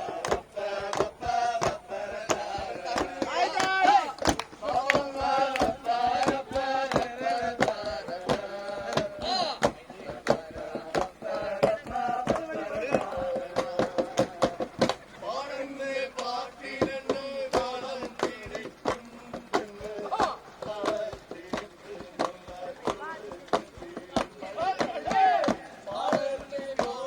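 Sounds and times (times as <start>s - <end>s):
men singing together: 0.0s - 27.0s
rhythmic claps or knocks: 0.0s - 27.0s.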